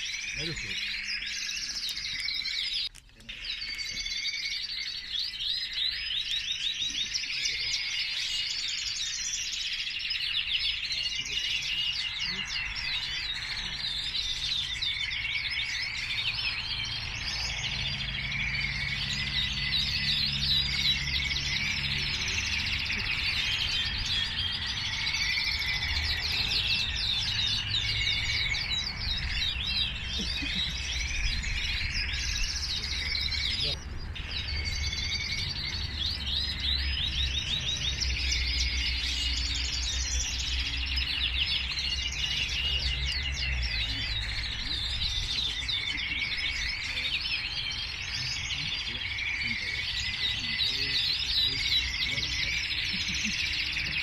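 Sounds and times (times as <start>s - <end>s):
canaries chirping and trilling: 0.0s - 54.0s.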